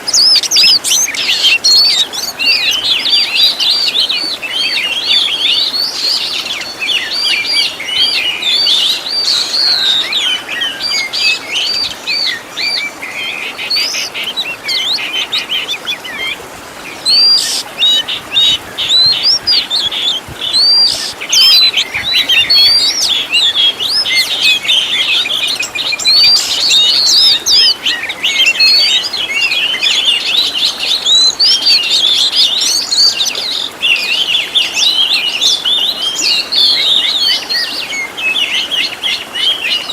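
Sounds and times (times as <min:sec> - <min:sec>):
bird singing varied phrases: 0:00.0 - 0:39.9.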